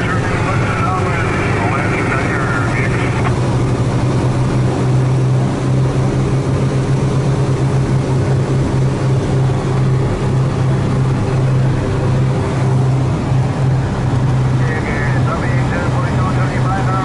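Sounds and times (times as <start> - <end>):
airplane engines droning: 0.0 - 17.0.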